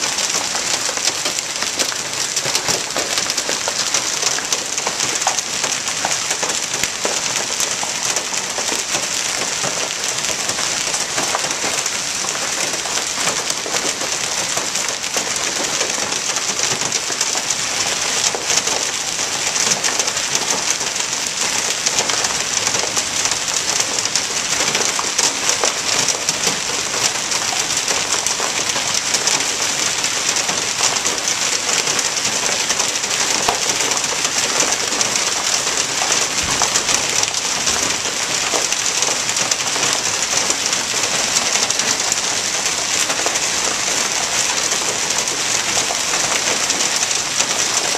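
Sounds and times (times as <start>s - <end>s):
hail and rain pelting: 0.0s - 47.9s.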